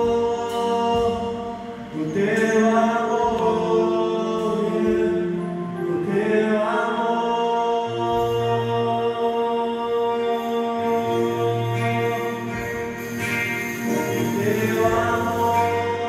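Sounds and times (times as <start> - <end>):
person singing long notes: 0.0 - 16.0
slow worship music chords: 0.0 - 16.0.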